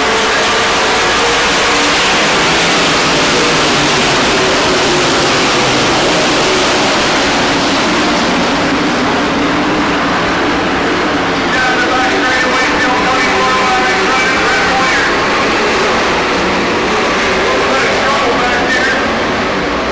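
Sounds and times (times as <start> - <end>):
race truck engines: 0.0 - 19.9.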